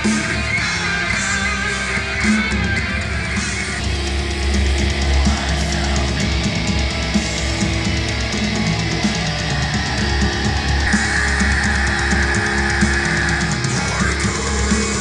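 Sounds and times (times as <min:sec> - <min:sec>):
heavy metal through small speaker: 0:00.0 - 0:15.0.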